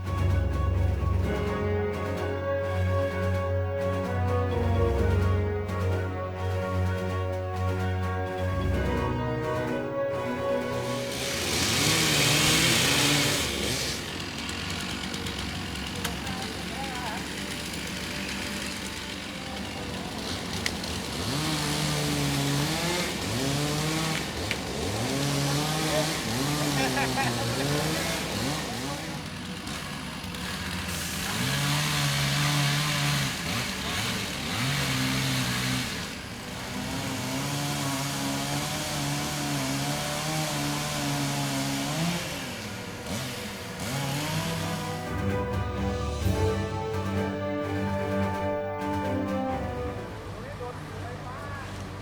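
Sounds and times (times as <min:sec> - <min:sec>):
chainsaw engine revving: 0:00.0 - 0:52.0.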